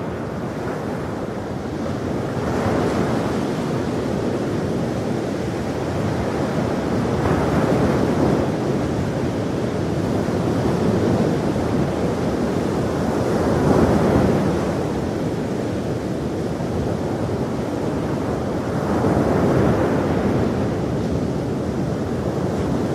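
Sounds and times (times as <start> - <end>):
ocean waves washing onto shore: 0.0 - 22.9.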